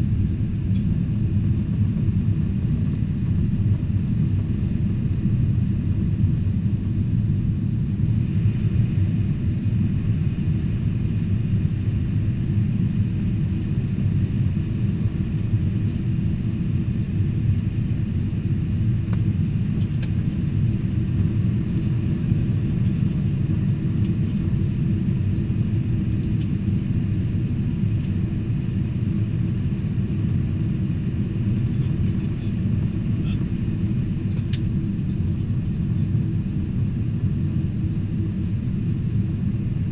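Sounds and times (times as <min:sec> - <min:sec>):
airliner cabin engine rumble: 0:00.0 - 0:39.9
faint high hum: 0:00.0 - 0:39.9.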